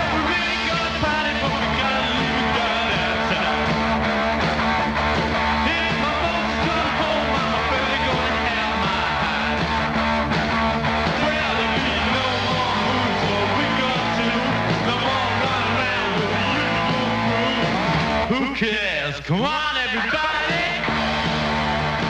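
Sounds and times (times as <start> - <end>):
rock music: 0.0 - 22.0.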